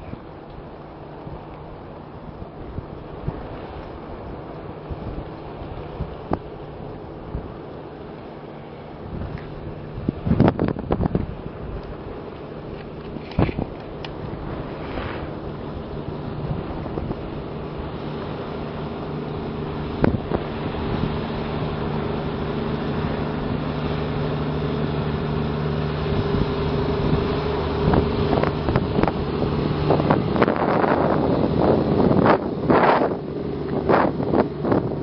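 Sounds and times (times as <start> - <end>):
wind on microphone: 0.0 - 7.8, 8.4 - 35.0
boat engine humming: 0.0 - 35.0.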